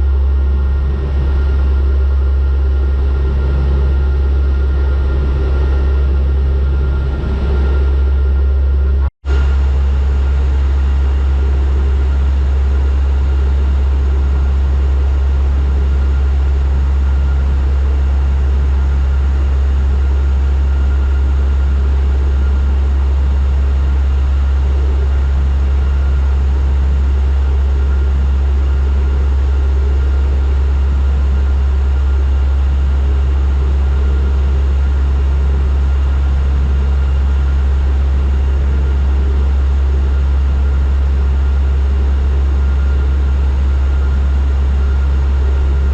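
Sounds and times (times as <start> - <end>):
engine whine: 0.0 - 45.9
propeller drone in cabin: 0.0 - 45.9.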